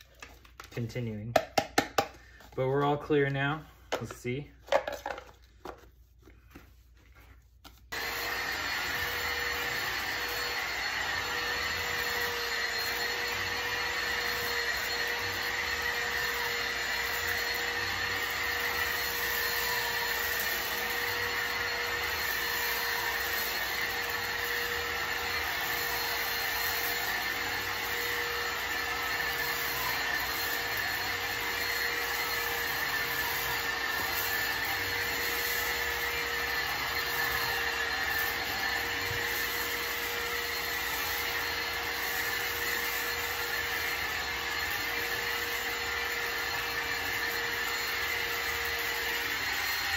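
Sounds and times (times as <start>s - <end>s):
cordless vacuum motor whine: 7.9s - 49.9s.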